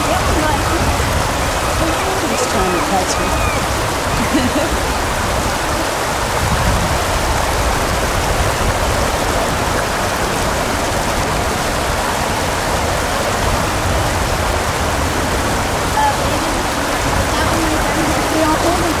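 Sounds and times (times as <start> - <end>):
rain falling on water: 0.0 - 19.0.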